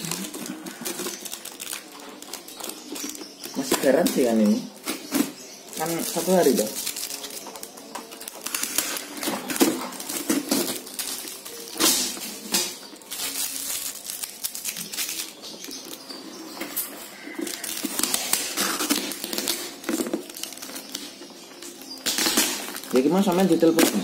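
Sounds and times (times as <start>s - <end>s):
packing tape ripping off plastic box: 0.0s - 24.0s.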